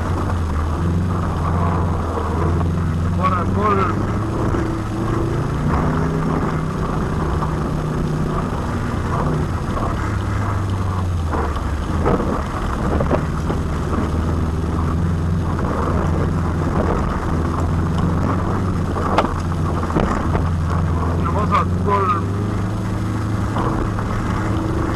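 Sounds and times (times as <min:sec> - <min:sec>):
car knocking over bumps: 0:00.0 - 0:22.2
rally car engine running hard: 0:00.0 - 0:24.9.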